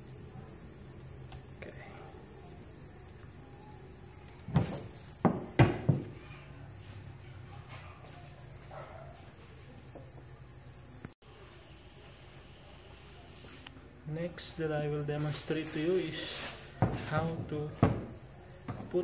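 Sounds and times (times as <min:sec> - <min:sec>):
cricket trilling: 0:00.0 - 0:19.0.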